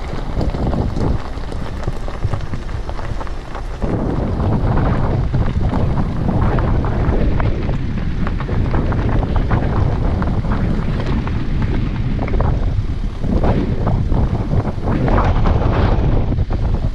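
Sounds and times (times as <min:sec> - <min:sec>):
moving vehicle noise: 0:00.0 - 0:16.9
wind buffeting microphone: 0:00.0 - 0:16.9.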